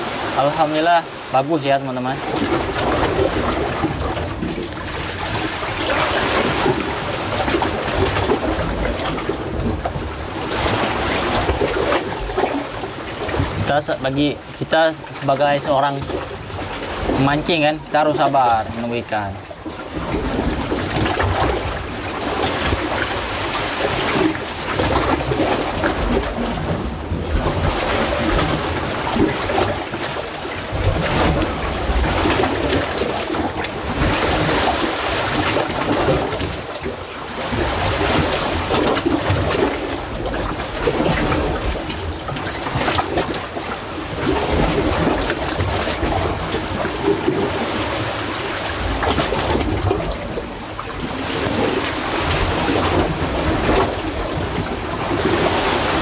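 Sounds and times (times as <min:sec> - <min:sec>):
seawater surging between rocks: 0:00.0 - 0:56.0.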